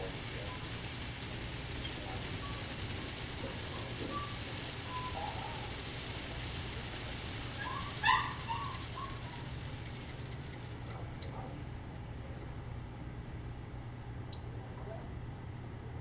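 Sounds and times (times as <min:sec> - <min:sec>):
model locomotives humming: 0:00.0 - 0:15.0.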